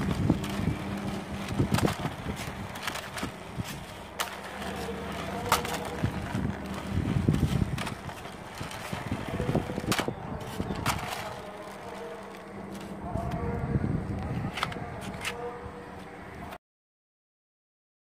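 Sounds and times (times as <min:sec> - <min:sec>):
toy car wheels rolling on concrete: 0:00.0 - 0:13.6, 0:14.2 - 0:16.4.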